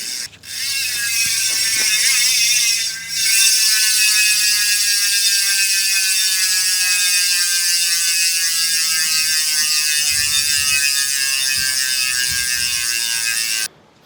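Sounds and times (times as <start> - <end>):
bicycle freehub ratchet buzz: 0.0 - 13.7.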